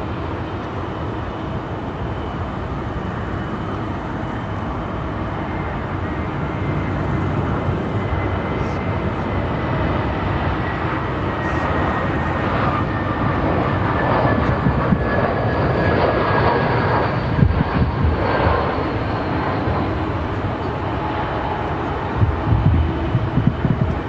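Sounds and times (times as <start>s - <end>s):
high engine whine: 0.0s - 24.0s
jet engine rushing noise: 2.2s - 24.0s.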